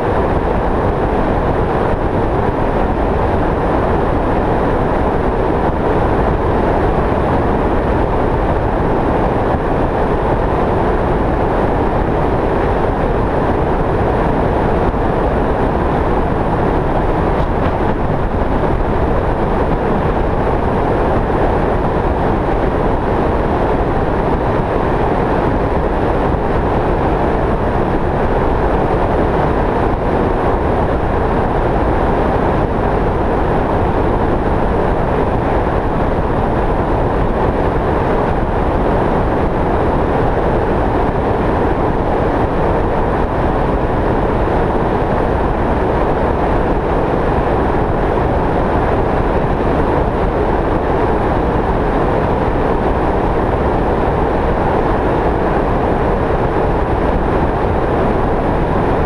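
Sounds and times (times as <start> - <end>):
vehicle road and wind noise: 0.0 - 59.0.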